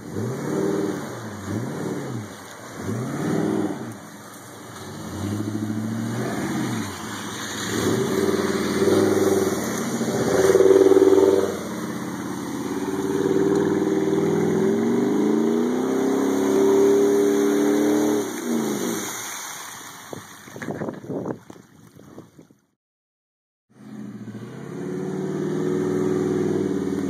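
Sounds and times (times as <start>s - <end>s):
truck engine revving: 0.0s - 19.0s, 23.7s - 27.0s.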